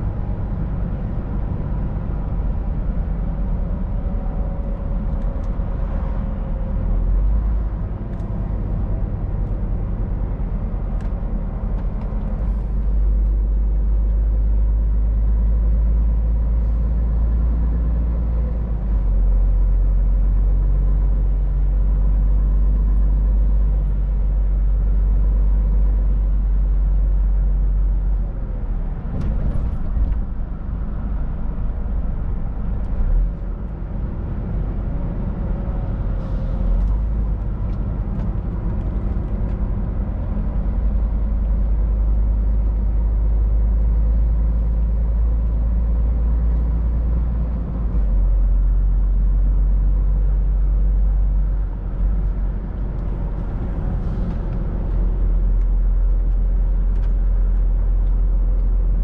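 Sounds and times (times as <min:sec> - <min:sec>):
road rumble: 0:00.0 - 0:59.0
truck diesel engine drone: 0:00.0 - 0:59.0.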